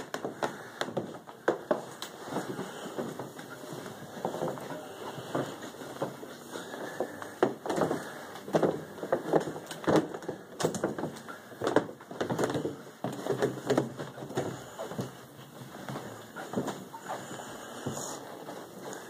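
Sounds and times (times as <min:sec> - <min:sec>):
footsteps going down stairs: 0:00.0 - 0:19.0.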